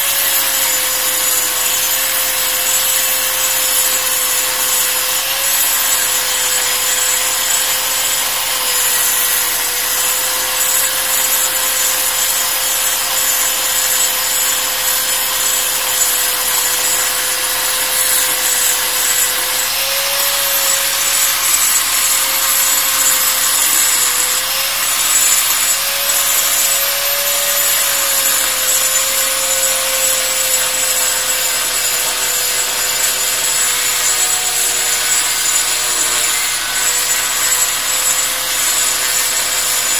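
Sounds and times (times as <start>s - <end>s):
angle grinder grinding stone: 0.0s - 39.9s.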